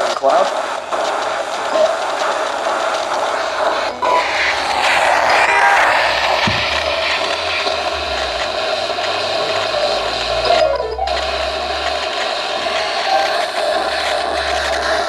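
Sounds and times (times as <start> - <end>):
radio static hissing: 0.0 - 15.0.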